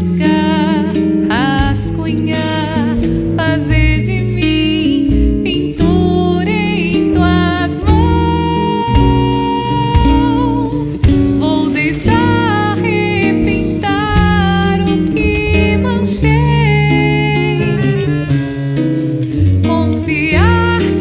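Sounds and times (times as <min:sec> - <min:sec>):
woman singing: 0:00.0 - 0:18.3, 0:19.5 - 0:21.0
acoustic guitar: 0:00.0 - 0:21.0
drums: 0:00.0 - 0:21.0
upright bass: 0:00.0 - 0:21.0.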